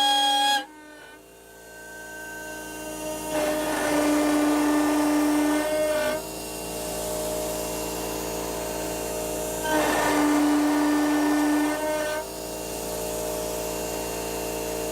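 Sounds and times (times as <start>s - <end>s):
metal cutting noise: 0.0s - 13.5s.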